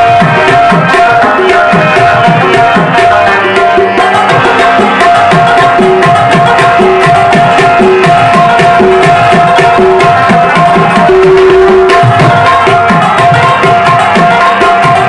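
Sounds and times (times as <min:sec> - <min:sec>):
plucked rabab melody: 0:00.0 - 0:15.0
tabla rhythm: 0:00.0 - 0:15.0.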